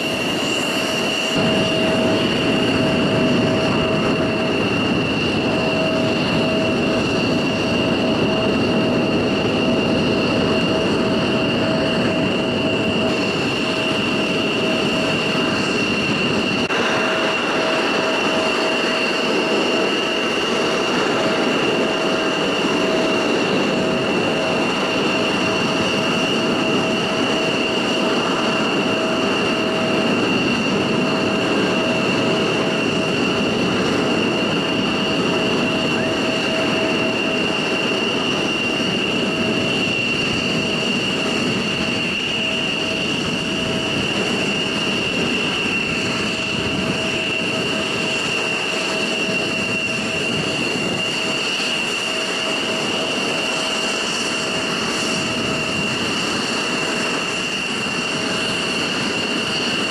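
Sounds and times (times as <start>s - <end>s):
jet engine turbine whine: 0.0s - 59.9s.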